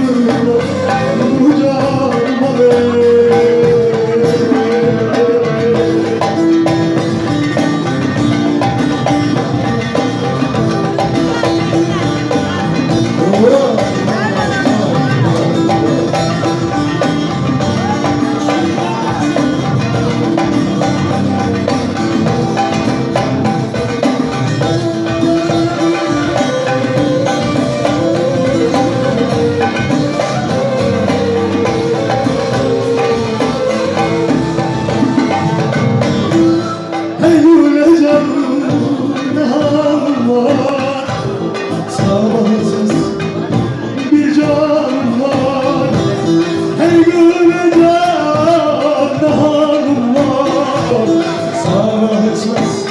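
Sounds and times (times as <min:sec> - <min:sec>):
percussion: 0:00.0 - 0:52.9
plucked long-necked lute folk music: 0:00.0 - 0:52.9.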